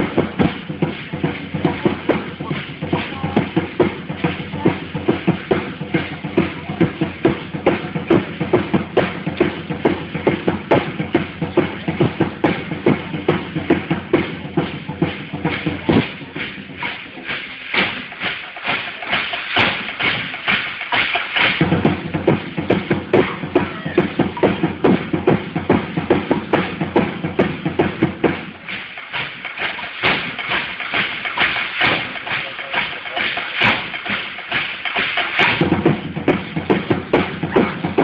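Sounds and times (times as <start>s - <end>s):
drums keeping a quick beat: 0.0s - 38.0s.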